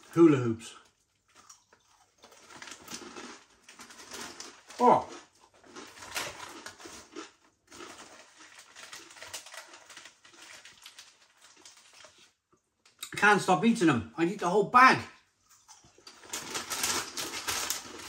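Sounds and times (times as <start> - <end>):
crunching and chewing snacks: 0.0 - 12.6, 15.4 - 18.0.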